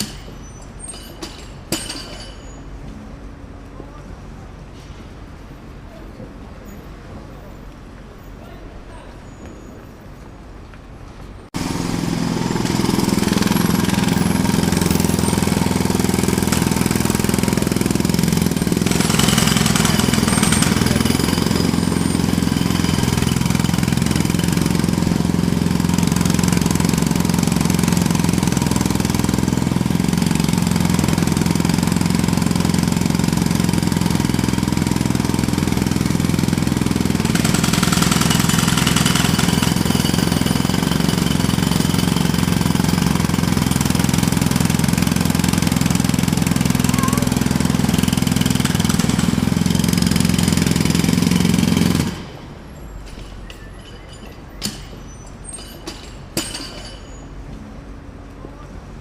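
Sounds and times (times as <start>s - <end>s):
jackhammer hammering: 0.0s - 2.4s, 11.6s - 57.2s.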